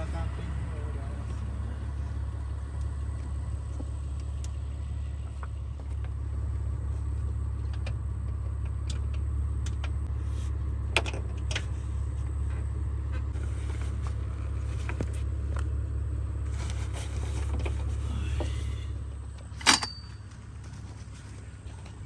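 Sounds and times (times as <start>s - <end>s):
car rumbling: 0.0s - 22.0s.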